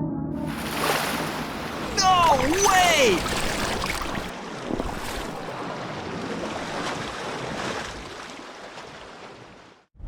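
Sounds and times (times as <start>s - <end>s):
sea waves: 0.4s - 9.9s.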